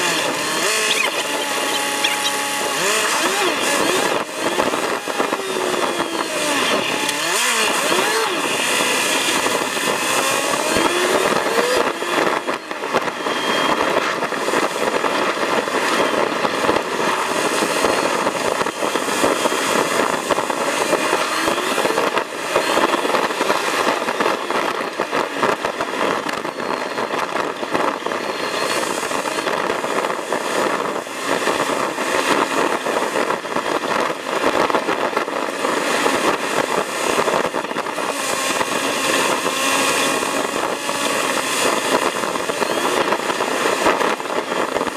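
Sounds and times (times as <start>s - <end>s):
vehicle driving on gravel: 0.0s - 44.9s.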